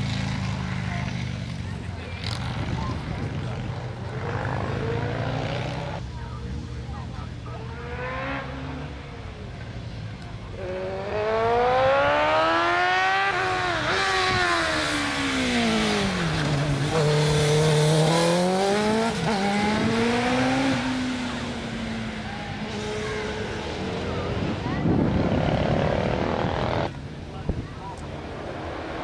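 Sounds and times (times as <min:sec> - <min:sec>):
motorcycle engine revving: 0:00.0 - 0:06.2, 0:07.5 - 0:09.1, 0:10.5 - 0:27.3.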